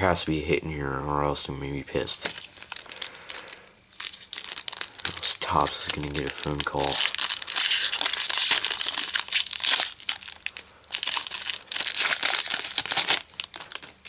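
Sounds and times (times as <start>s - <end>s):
wrapper tearing and crinkling: 2.2s - 14.0s.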